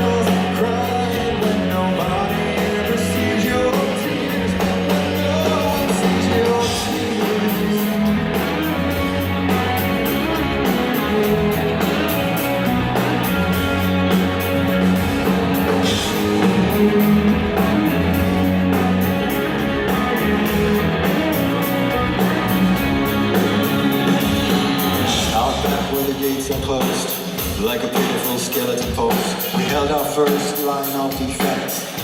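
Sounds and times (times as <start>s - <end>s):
bass guitar: 0.0s - 32.0s
drum kit beat: 0.0s - 32.0s
electric guitar: 0.0s - 32.0s.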